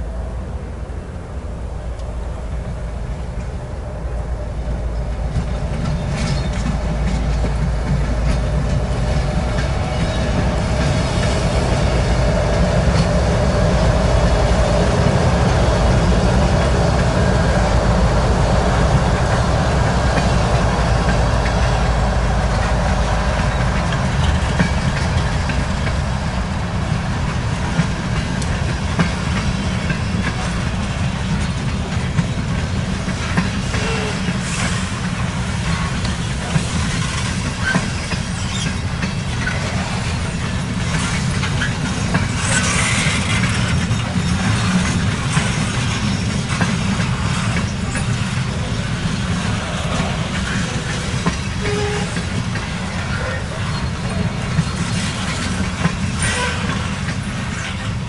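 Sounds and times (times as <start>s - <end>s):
diesel locomotives passing: 0.0s - 58.0s
train wheels clicking over rail joints: 4.4s - 58.0s.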